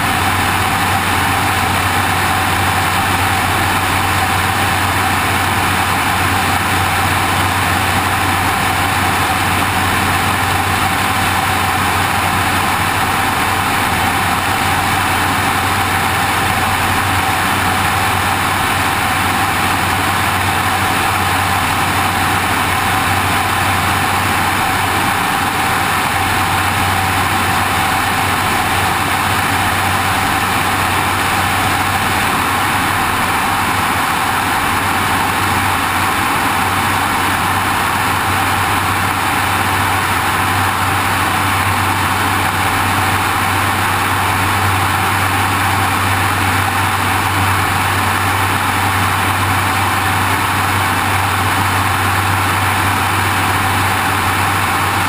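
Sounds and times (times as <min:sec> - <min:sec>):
airplane engine drone: 0:00.0 - 0:55.0.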